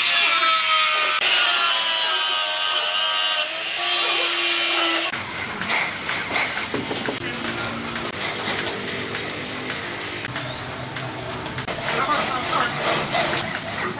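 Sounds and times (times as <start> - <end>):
angle grinder cutting metal: 0.0 - 13.9.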